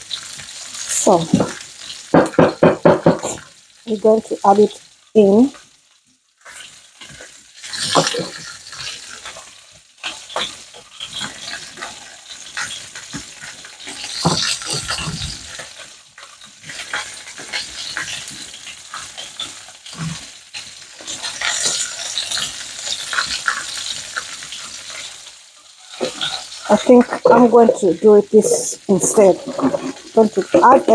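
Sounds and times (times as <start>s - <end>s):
ribs sizzling in a frying pan: 0.0s - 30.9s.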